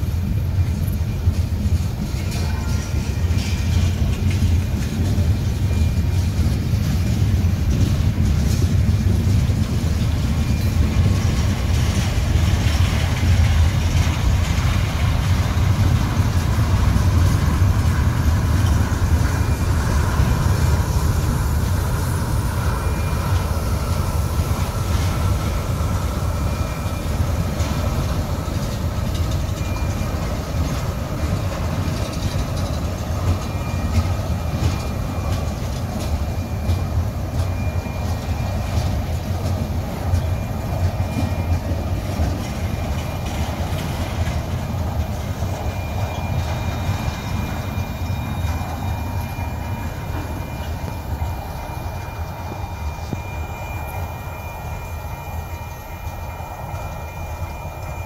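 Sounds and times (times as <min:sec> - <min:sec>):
train wheels rumbling on rails: 0:00.0 - 0:58.0
high wheel squeals: 0:09.6 - 0:58.0.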